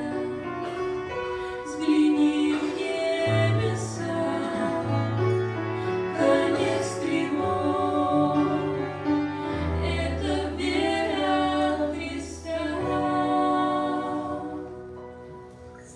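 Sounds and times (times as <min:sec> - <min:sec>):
choir singing: 0:00.0 - 0:15.9.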